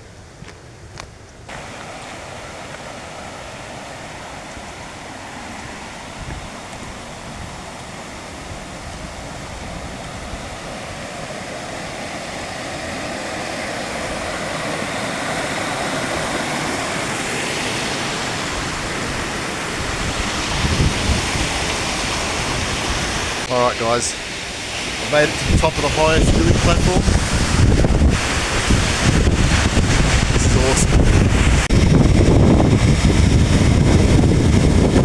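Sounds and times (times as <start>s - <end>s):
waterfall rushing: 1.5s - 33.6s.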